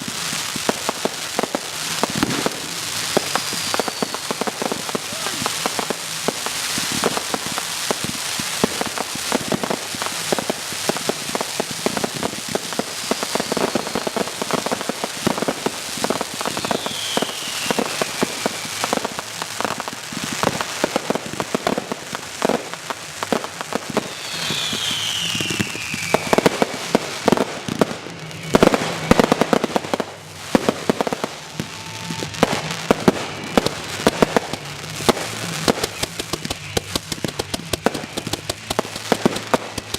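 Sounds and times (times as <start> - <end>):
fireworks bangs: 0.0 - 39.9
fireworks crackling and popping: 0.0 - 39.9
fireworks whistling: 0.0 - 39.9.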